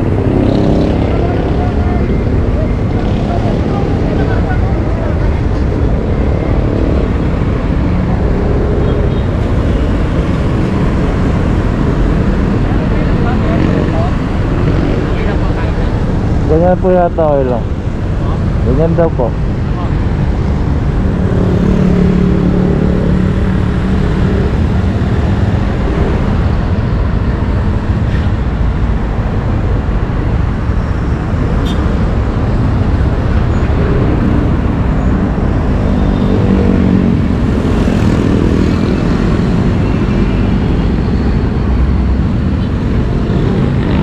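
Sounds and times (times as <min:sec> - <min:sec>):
road and wind rush: 0:00.0 - 0:44.0.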